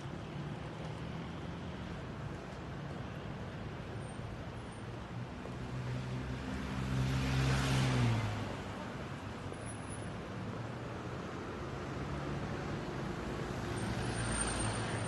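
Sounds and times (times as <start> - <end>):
city traffic: 0.0 - 15.0.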